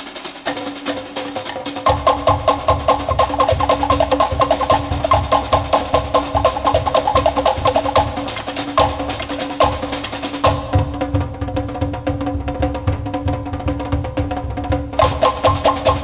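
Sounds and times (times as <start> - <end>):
fast wooden slit drums: 0.0 - 16.0
low bass drum beats: 1.9 - 16.0.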